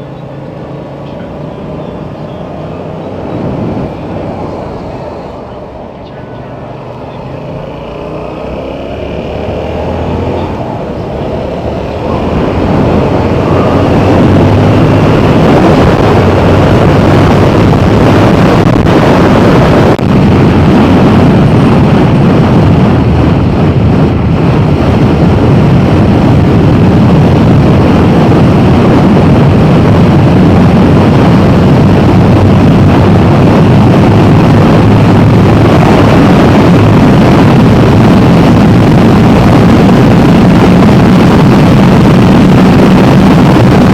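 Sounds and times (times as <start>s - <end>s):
motorcycle engine: 0.0s - 43.9s
wind noise on microphone: 0.0s - 43.9s.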